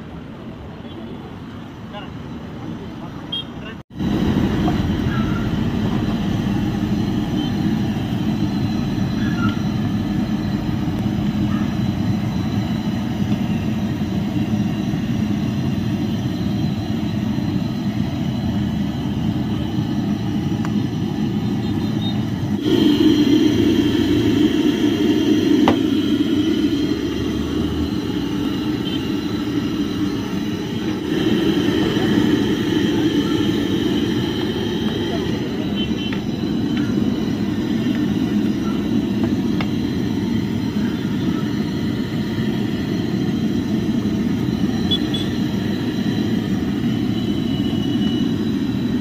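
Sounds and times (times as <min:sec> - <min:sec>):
street noise: 0:00.0 - 0:49.0
gas burner rumble: 0:03.9 - 0:49.0.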